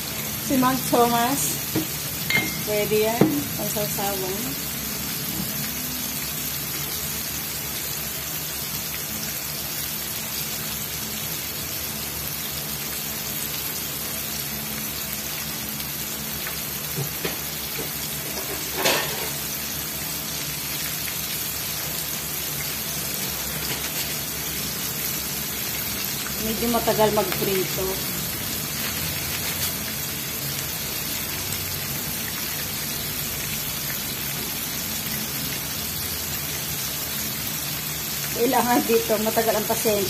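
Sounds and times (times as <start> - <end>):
chicken deep-frying crackling sizzle: 0.0 - 40.0.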